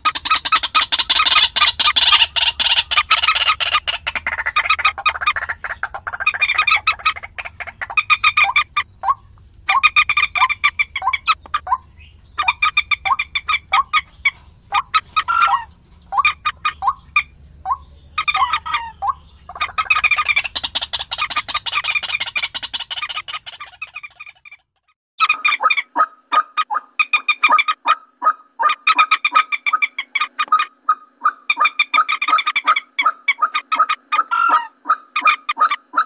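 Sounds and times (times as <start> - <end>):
moorhen clucking calls: 0.0 - 36.0.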